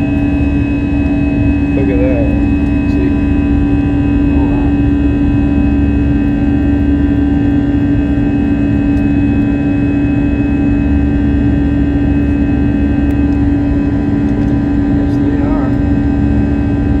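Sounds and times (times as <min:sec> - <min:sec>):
constant hum tone: 0:00.0 - 0:17.0
jet engine and airflow noise: 0:00.0 - 0:17.0.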